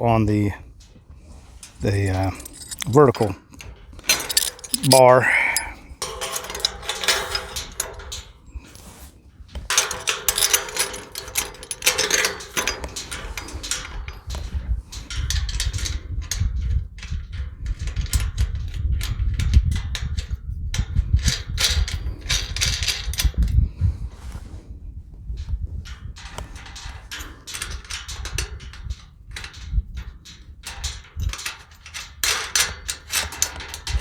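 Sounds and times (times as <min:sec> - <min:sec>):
metal latch parts clinking on gate: 0:00.3 - 0:08.9, 0:09.5 - 0:23.6, 0:25.4 - 0:34.0.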